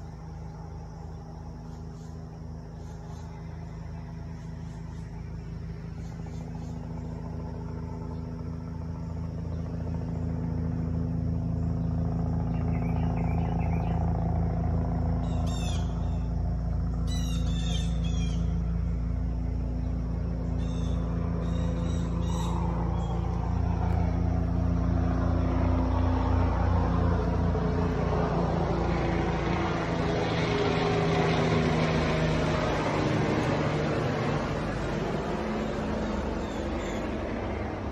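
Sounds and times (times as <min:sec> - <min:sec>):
helicopter rotor beating: 0:00.0 - 0:37.9.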